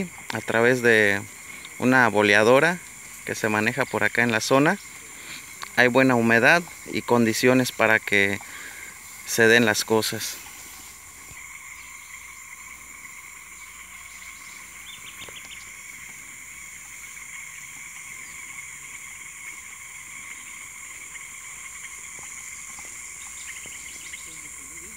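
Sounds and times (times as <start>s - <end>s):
insects chirping: 0.0s - 24.9s.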